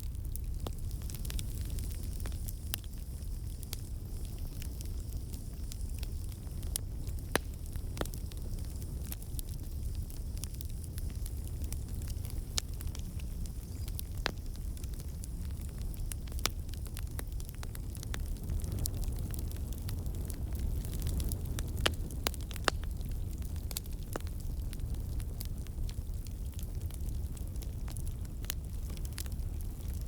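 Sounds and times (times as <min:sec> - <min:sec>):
campfire crackling and popping: 0:00.0 - 0:30.0
low rumble of flame: 0:00.0 - 0:30.0.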